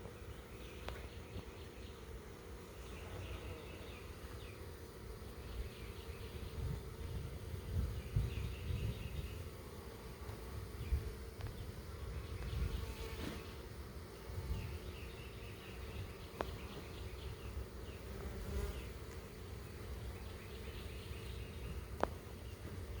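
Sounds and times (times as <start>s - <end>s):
honey bees buzzing: 0.0s - 23.0s.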